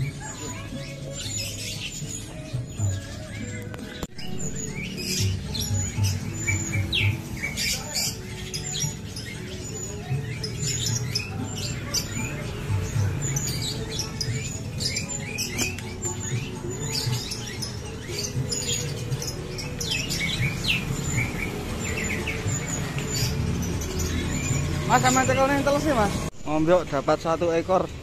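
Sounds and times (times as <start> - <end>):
background music: 0.0 - 28.0
birds chirping: 0.0 - 28.0.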